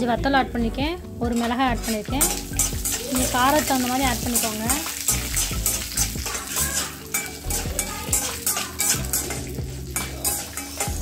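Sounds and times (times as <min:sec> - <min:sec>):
food sizzling in oil: 0:01.0 - 0:11.0
metal spatula scraping a pan: 0:01.2 - 0:11.0.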